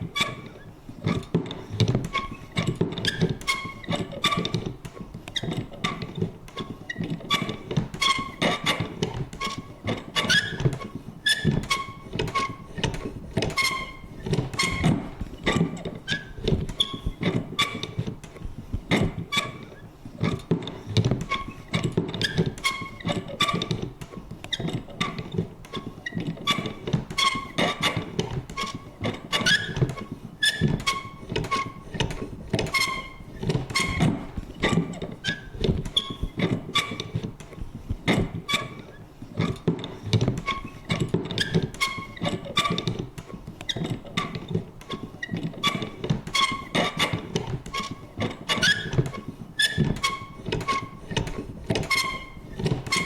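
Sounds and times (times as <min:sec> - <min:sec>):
paper punch clicking and squeaking: 0:00.0 - 0:53.0.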